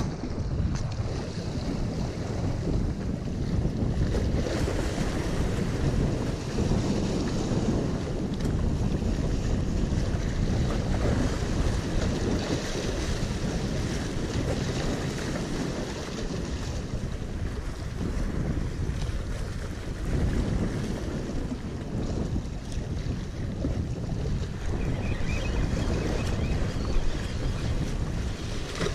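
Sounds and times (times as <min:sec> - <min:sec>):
waves splashing against rocks: 0:00.0 - 0:28.9
wind buffeting microphone: 0:00.0 - 0:28.9.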